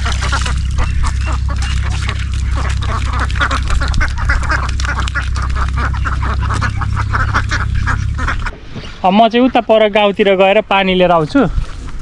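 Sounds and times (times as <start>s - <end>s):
ducks quacking: 0.0s - 10.4s
steady low rumble: 0.0s - 12.0s.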